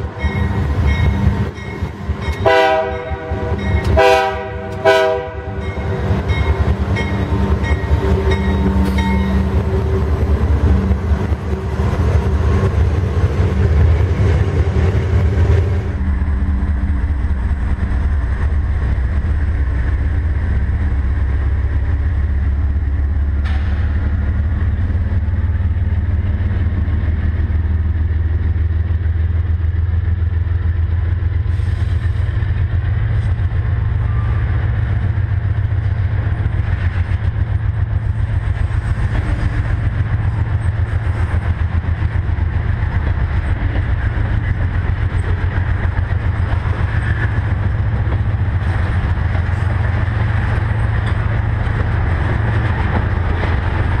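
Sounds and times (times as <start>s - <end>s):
diesel locomotive engine drone: 0.0s - 54.0s
wheels rumbling on rail: 0.0s - 54.0s.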